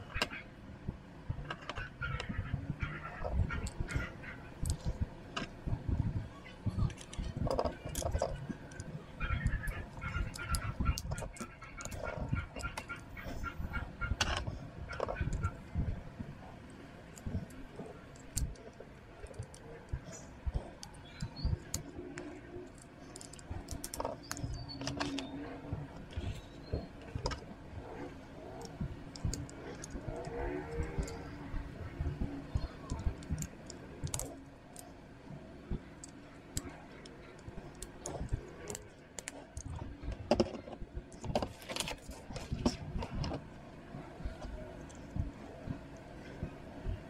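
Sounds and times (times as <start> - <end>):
plastic parts clicking together: 1.5 - 5.8, 6.4 - 35.0, 35.7 - 43.5, 44.2 - 47.0.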